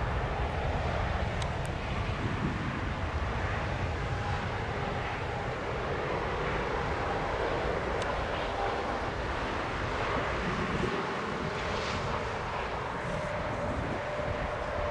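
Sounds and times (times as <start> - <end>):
jet engine noise: 0.0 - 14.9.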